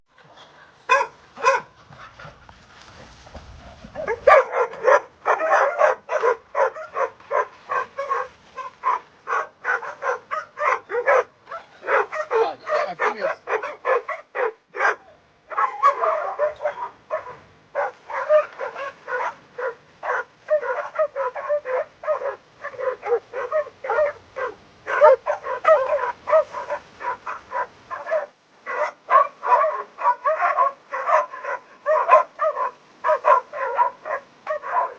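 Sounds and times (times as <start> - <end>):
dogs barking and yipping: 0.3 - 2.3, 3.8 - 34.9.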